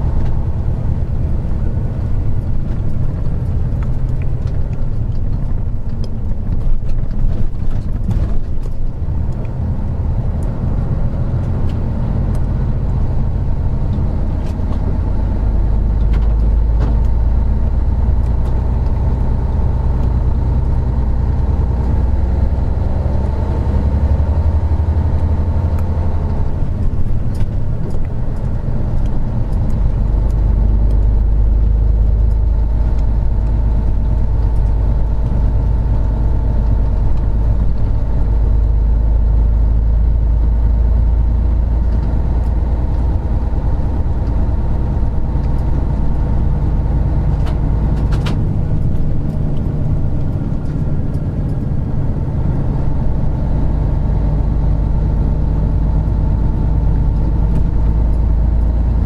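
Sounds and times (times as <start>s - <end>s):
diesel coach engine running: 0.0s - 59.0s.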